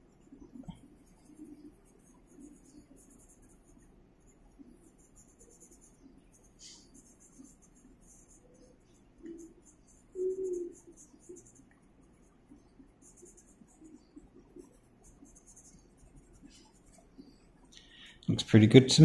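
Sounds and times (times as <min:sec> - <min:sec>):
pencil scratching on paper: 0:00.0 - 0:17.7.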